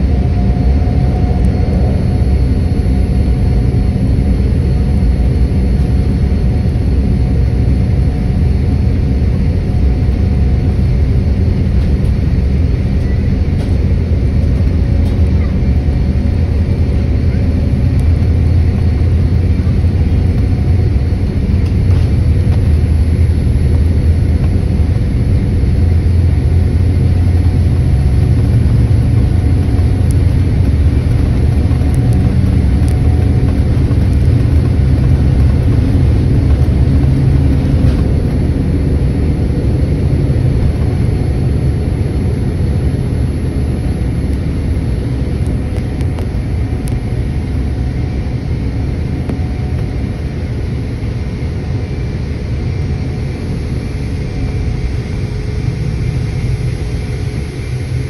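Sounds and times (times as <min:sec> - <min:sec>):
jet engines and wheels rumbling: 0:00.0 - 0:58.0.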